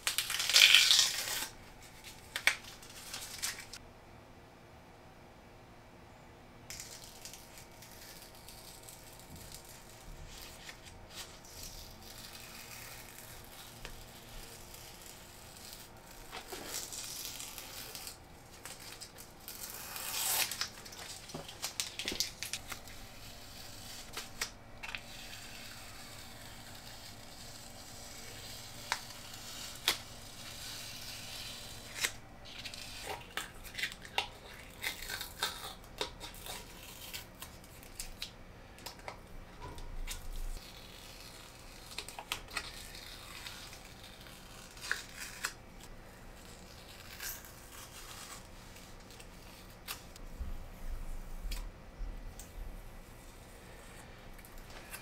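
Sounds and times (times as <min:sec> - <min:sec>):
masking tape peeling and crinkling: 0:00.0 - 0:03.8, 0:06.7 - 0:51.7.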